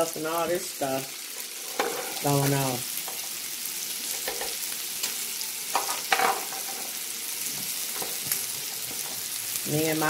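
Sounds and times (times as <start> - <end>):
food sizzling on a griddle: 0.0 - 10.0.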